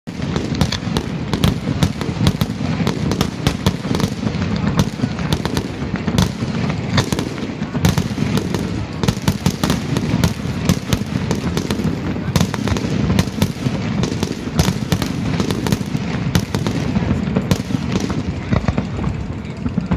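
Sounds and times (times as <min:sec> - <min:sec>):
fireworks cracks and bangs: 0:00.0 - 0:19.9.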